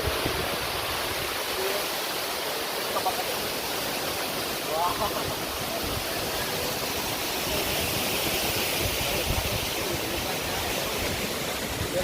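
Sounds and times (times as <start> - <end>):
rushing flowing water: 0.0 - 12.0.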